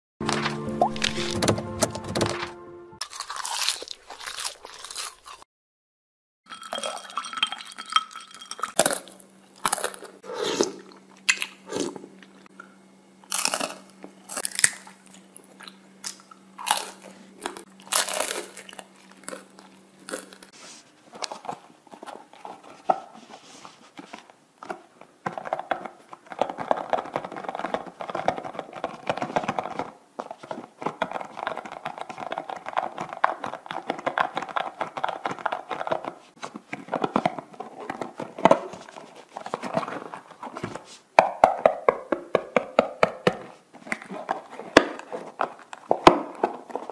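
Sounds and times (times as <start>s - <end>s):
crunching and chewing waffle cone: 3.0s - 5.5s, 8.8s - 12.5s, 13.2s - 46.9s.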